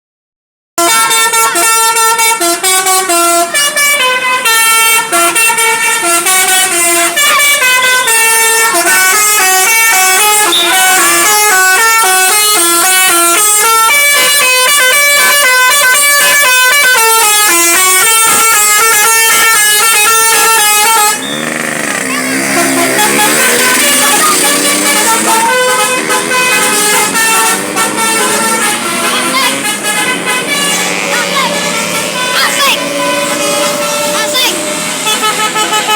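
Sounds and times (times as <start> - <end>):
bus melody horn: 0.8 - 35.9.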